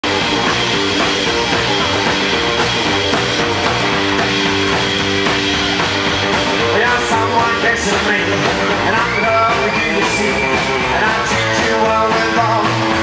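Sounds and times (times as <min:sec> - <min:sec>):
rockabilly band playing live: 0:00.0 - 0:13.0.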